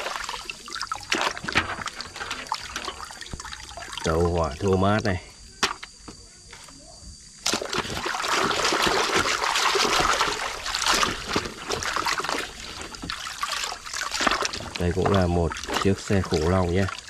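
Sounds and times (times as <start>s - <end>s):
muddy water splashing in basin: 0.0s - 5.0s, 7.4s - 17.0s.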